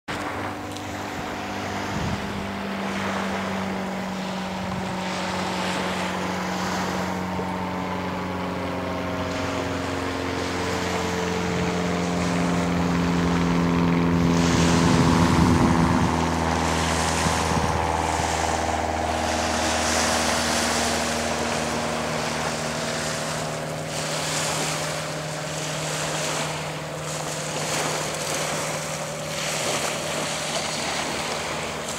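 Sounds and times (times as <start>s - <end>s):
light aircraft flying overhead: 0.1s - 31.9s.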